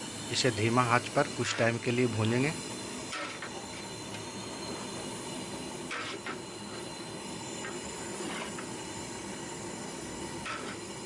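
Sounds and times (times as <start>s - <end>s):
meat and onion frying in a pot: 0.0s - 11.0s.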